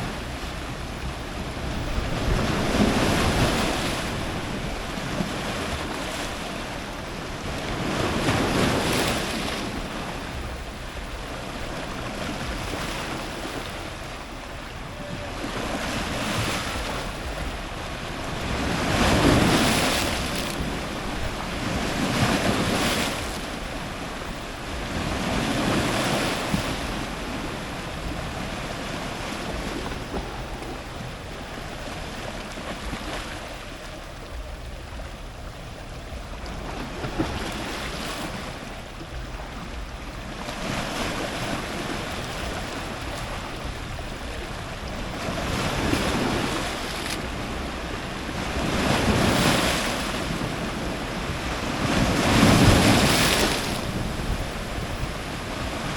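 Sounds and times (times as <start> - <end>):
ocean surf breaking on rocks: 0.0 - 55.9.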